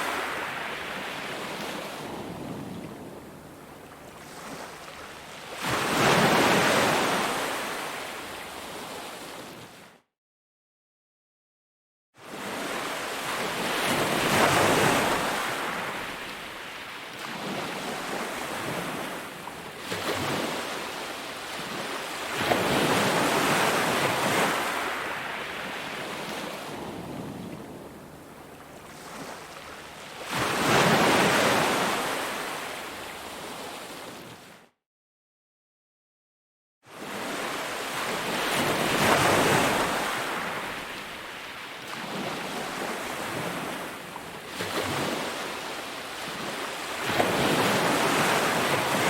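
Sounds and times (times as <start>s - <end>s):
ocean waves breaking on a beach: 0.0s - 9.9s, 12.2s - 34.7s, 36.9s - 49.0s.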